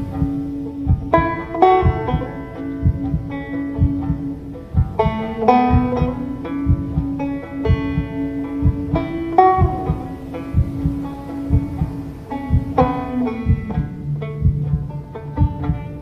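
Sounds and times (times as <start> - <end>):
slow banjo picking: 0.0 - 16.0.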